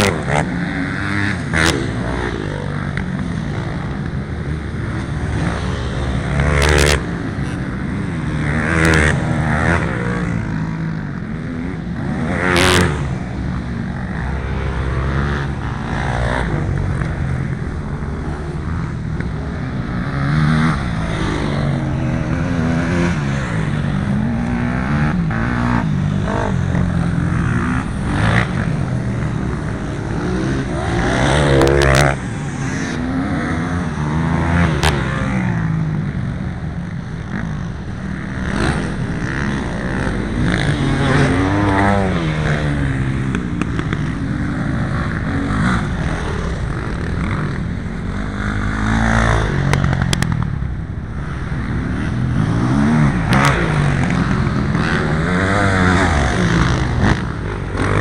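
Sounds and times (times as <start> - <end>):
dirt bike engines revving and passing: 0.0 - 58.0.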